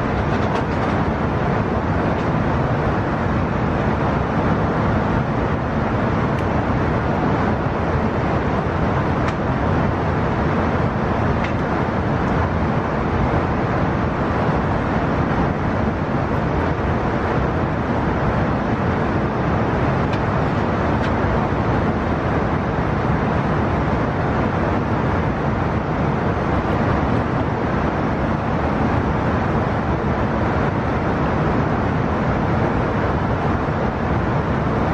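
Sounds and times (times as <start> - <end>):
airliner cabin noise: 0.0 - 34.9.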